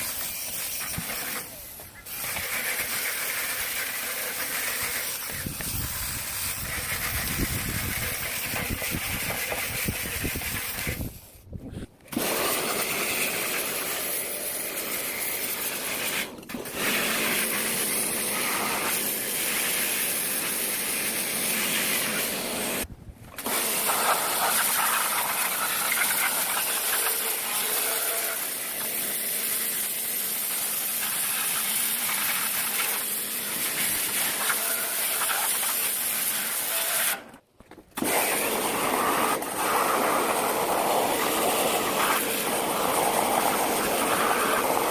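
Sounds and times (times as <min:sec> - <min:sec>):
pressure washer spraying: 0:00.0 - 0:11.2, 0:12.1 - 0:37.3, 0:38.0 - 0:44.9.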